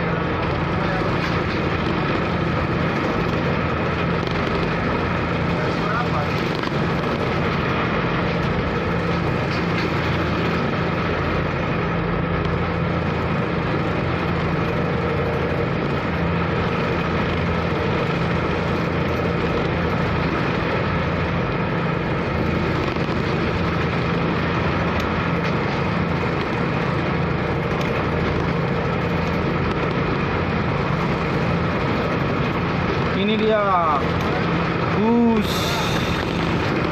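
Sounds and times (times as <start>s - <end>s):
ship engine low drone: 0.0s - 36.9s.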